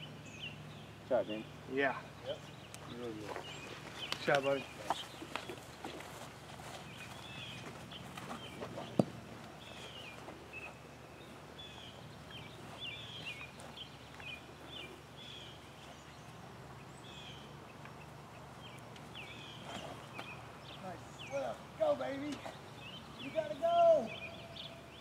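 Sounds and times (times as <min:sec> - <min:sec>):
birds chirping: 0:00.0 - 0:25.0
faint background noise: 0:00.0 - 0:25.0.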